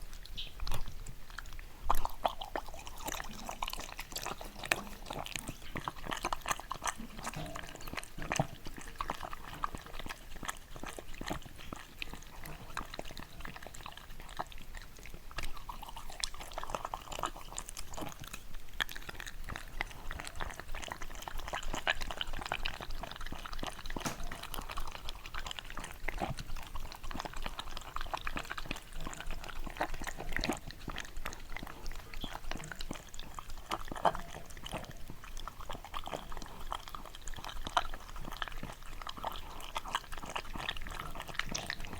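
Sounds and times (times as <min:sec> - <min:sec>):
dog mouth clicks and smacks: 0:00.0 - 0:41.9.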